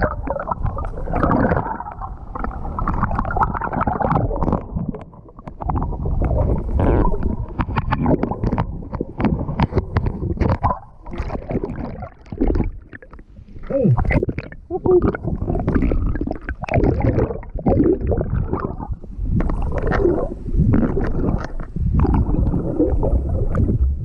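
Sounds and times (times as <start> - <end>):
muffled underwater river current: 0.0 - 24.0.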